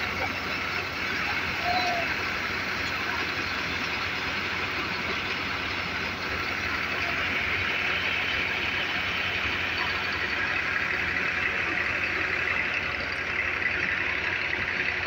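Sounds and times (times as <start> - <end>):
engine humming: 0.0 - 15.0
threshing machine running: 0.0 - 15.0.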